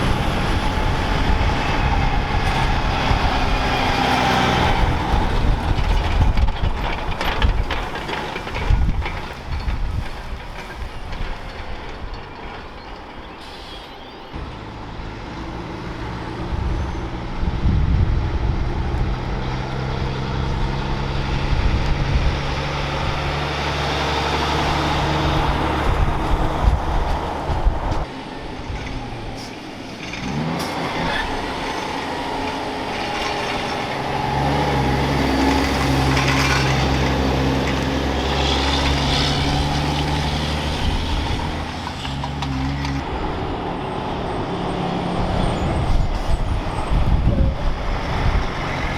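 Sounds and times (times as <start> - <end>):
heavy diesel trucks driving past: 0.0 - 48.9.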